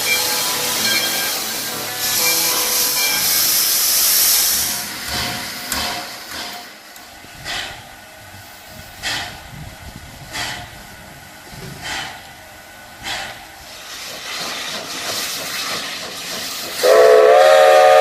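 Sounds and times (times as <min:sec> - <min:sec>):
loud steam hiss: 0:00.0 - 0:18.0
steam locomotive exhaust chuffs: 0:00.0 - 0:18.0.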